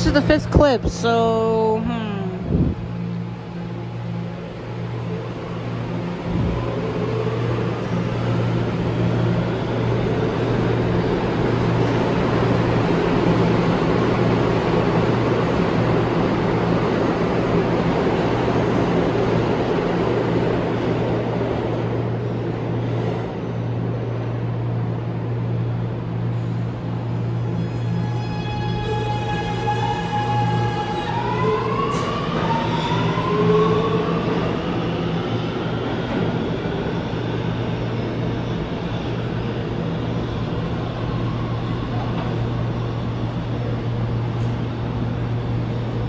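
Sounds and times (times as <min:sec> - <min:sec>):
subway train rumbling: 0:00.0 - 0:46.0.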